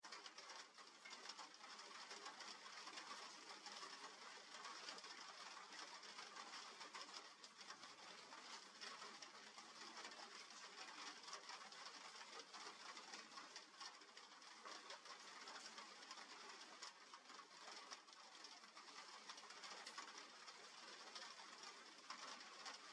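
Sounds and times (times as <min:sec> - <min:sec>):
rain drops ticking: 0:00.0 - 0:22.9.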